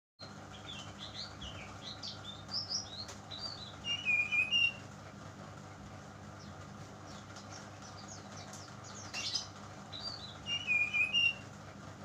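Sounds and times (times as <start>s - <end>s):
bird chirping song: 0.2s - 5.0s, 6.3s - 11.6s.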